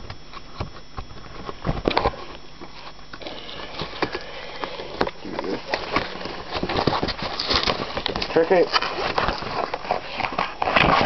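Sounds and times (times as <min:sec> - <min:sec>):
cardboard box crackling and creaking: 0:00.0 - 0:11.0.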